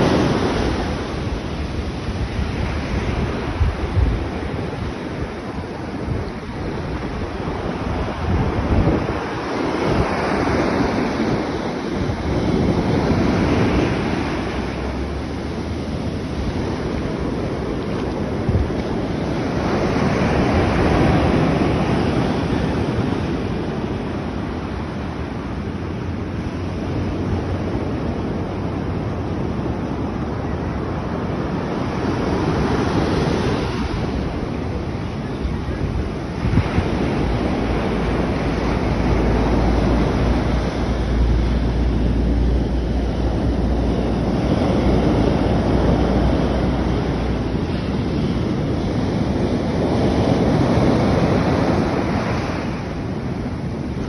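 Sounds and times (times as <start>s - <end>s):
sea surf washing ashore: 0.0s - 54.0s
wind buffeting microphone: 0.0s - 54.0s.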